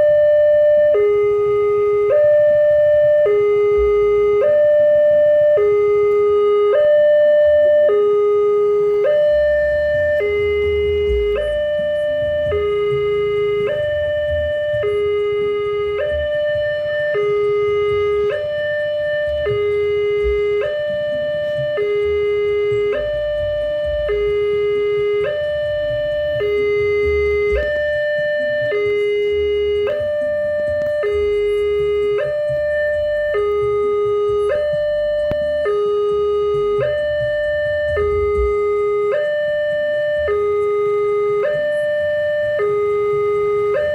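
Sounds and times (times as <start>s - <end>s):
two-tone crossing alarm: 0.0s - 43.9s.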